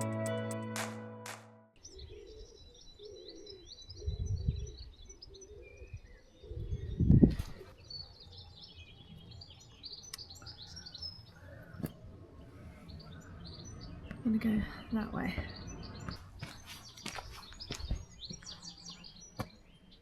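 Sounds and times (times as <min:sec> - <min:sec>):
small birds chirping: 0:01.8 - 0:20.0.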